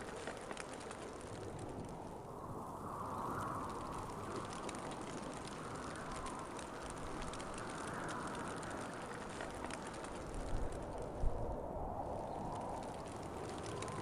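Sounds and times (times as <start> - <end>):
faint ticks and crackles: 0.0 - 14.0
wind blowing: 0.0 - 14.0.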